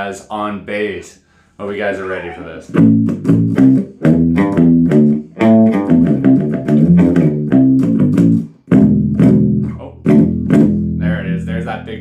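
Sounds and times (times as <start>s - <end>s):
electric bass riff: 2.0s - 12.0s.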